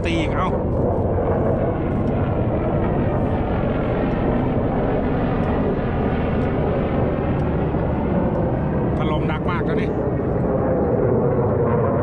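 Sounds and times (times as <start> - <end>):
military aircraft engines rumbling: 0.0 - 12.0.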